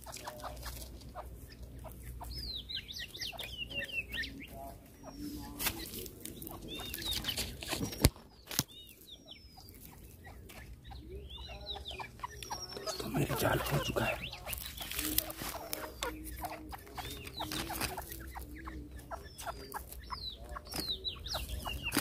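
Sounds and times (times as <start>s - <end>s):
birds chirping calls: 0.0s - 22.0s.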